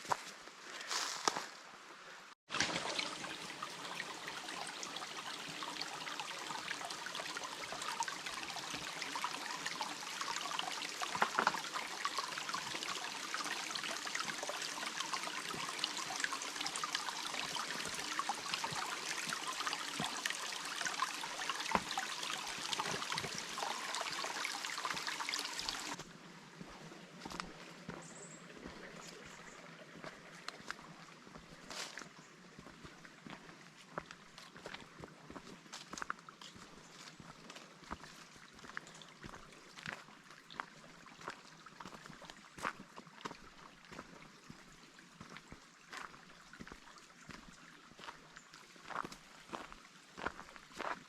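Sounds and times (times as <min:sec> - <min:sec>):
trickle of running water: 0:02.5 - 0:51.0.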